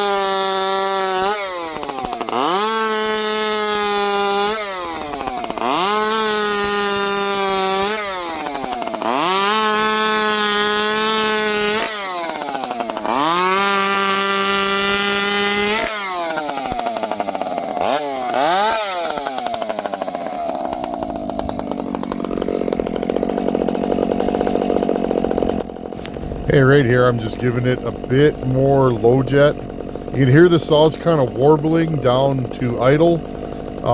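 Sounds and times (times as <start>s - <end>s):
chainsaw revving and idling: 0.0s - 33.9s.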